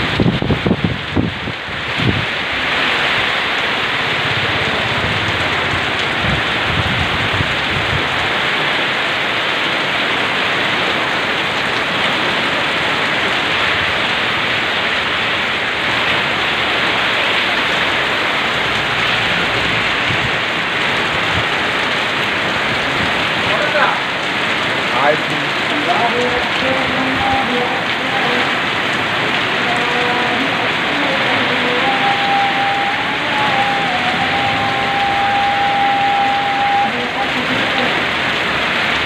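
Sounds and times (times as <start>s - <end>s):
heavy rain on street and roofs: 0.0s - 39.0s.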